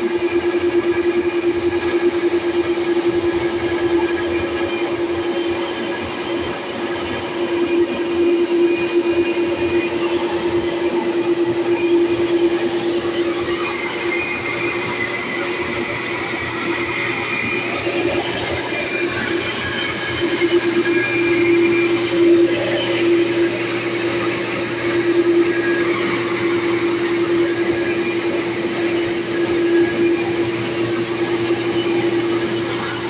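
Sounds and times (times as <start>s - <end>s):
jet engines idling: 0.3s - 33.0s.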